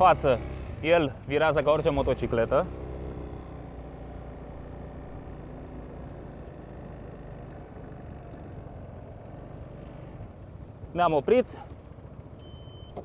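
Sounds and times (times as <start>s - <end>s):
scooter engine running: 0.0s - 10.7s.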